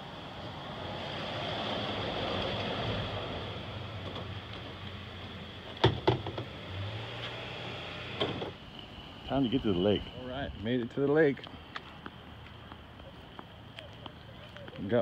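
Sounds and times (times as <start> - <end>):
outdoor background rush: 0.0 - 15.0.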